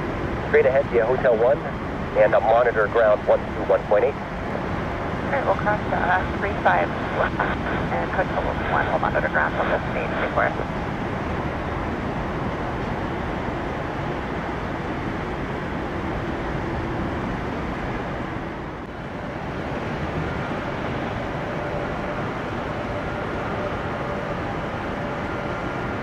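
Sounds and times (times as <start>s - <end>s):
faint whine: 0.0s - 26.0s
jet engines roaring: 0.0s - 26.0s.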